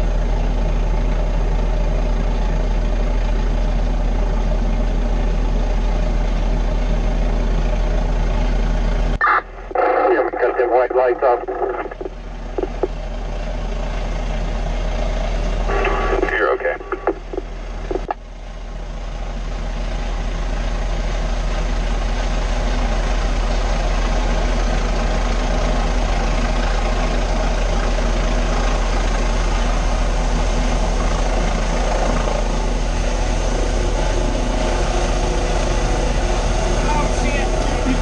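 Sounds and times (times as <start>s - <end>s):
diesel engine humming: 0.0s - 38.0s.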